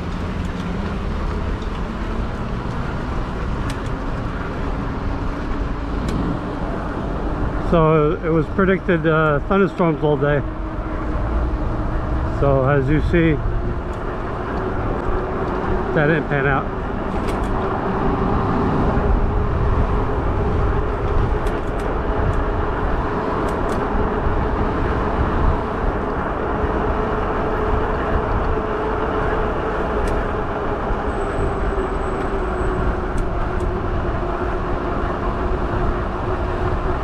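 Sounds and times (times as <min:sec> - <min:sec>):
wind and road noise: 0:00.0 - 0:37.0.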